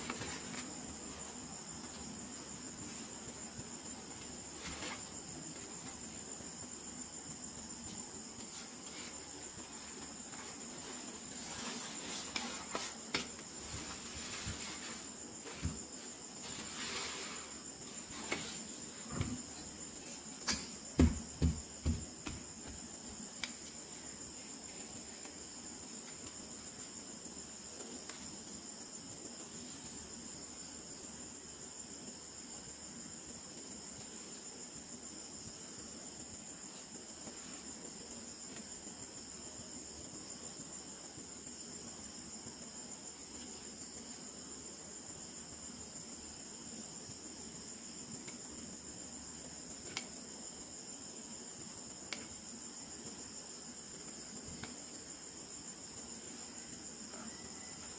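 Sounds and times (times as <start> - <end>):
faint high-pitched whine: 0.0 - 57.9.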